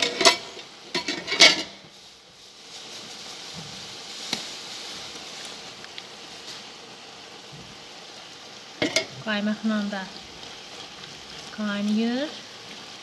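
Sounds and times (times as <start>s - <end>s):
mushrooms sizzling in a pot: 0.0s - 13.0s.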